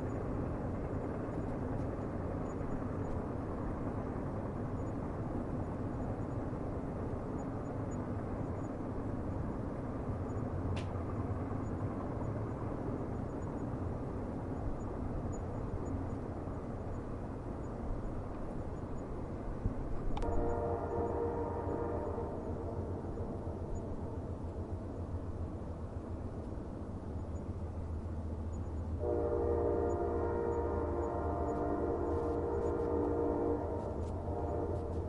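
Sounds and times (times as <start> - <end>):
distant train rumbling: 0.0 - 35.0.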